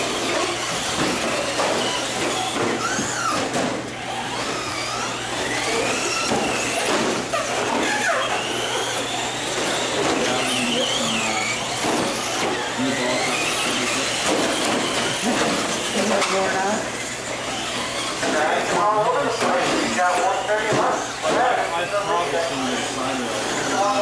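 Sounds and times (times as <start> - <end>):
toy truck electric motors whining: 0.0 - 24.0.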